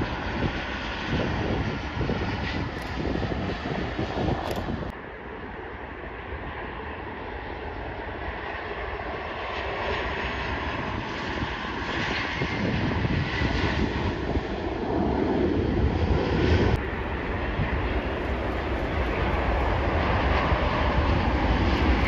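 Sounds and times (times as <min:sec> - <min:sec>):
airliner coming in to land: 0:00.0 - 0:22.0
jet engines rushing: 0:00.0 - 0:22.0.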